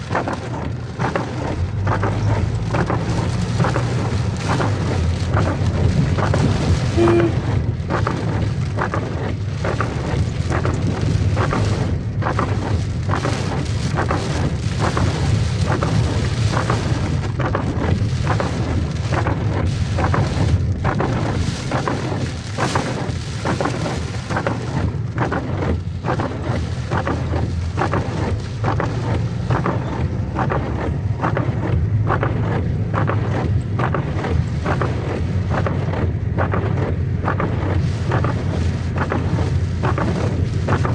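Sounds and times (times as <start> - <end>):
close raindrops tapping: 0.0 - 40.9
heavy rain pouring: 0.0 - 40.9
wind buffeting microphone: 0.0 - 40.9.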